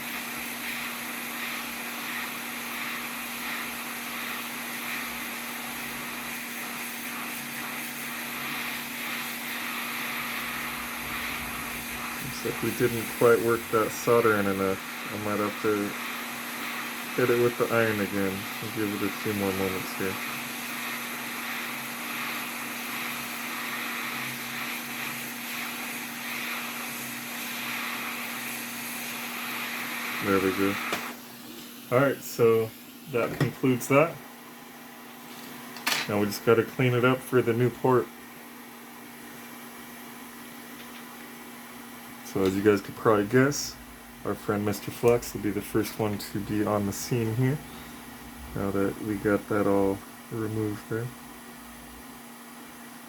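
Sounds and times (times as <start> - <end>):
hot air station blowing with hum: 0.0 - 53.0.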